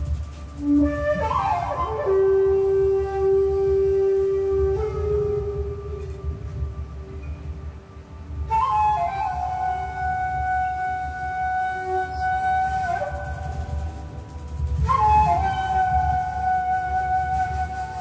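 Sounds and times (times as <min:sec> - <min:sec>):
drums: 0:00.0 - 0:18.0
flute long held notes: 0:00.0 - 0:18.0.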